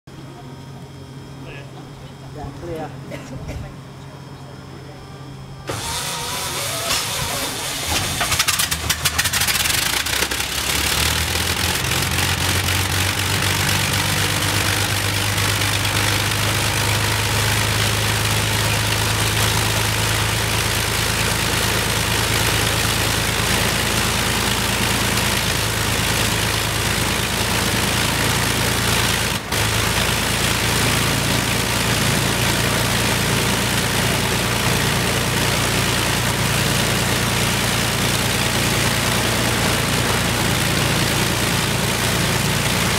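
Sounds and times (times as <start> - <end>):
aircraft engine idling: 3.8 - 42.9.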